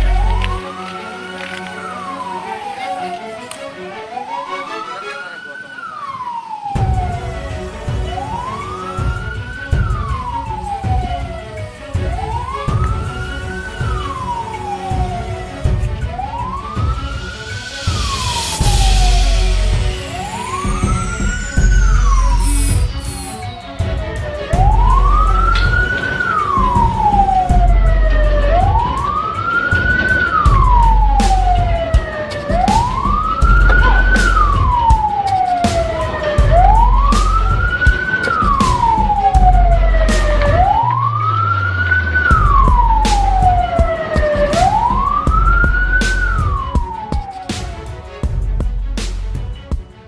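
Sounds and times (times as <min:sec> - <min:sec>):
pulsing deep bass beat: 0:00.0 - 0:00.6, 0:06.8 - 0:14.3, 0:14.9 - 0:50.0
siren wailing: 0:00.0 - 0:47.9.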